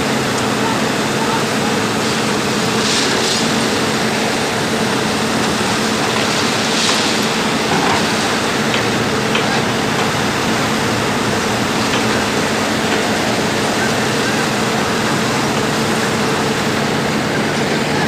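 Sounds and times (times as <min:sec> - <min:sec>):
machinery engine hum: 0:00.0 - 0:18.0
loud rushing noise: 0:01.5 - 0:18.0.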